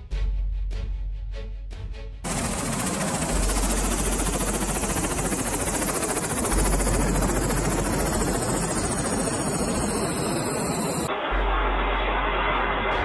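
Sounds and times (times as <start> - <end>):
helicopter rotor and turbine: 2.2 - 13.0.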